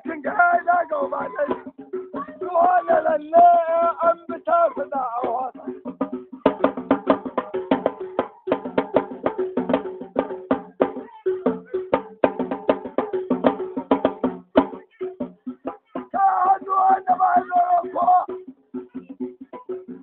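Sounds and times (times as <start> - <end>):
tuned hand percussion music: 0.0 - 20.0.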